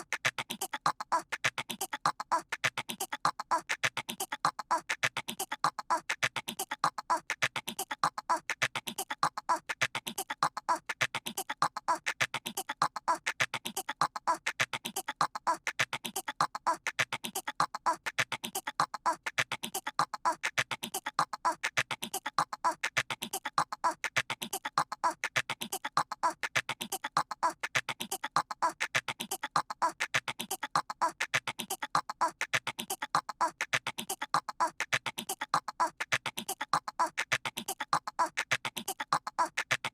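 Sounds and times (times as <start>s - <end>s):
cartoon baby chattering: 0.0s - 39.9s.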